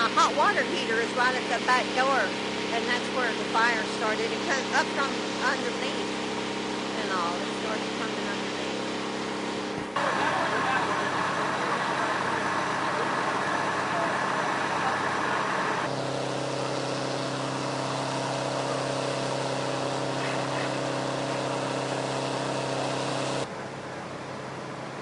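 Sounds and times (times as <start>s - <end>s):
outdoor background noise: 0.0s - 25.0s
vehicle engine idling: 0.0s - 25.0s.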